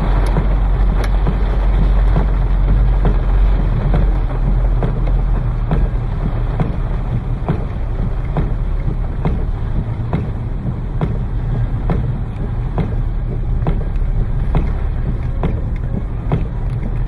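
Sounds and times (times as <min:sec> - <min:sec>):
heavy rain: 0:00.0 - 0:17.0
regular knock: 0:00.0 - 0:17.0
vehicle rumble: 0:00.0 - 0:17.0.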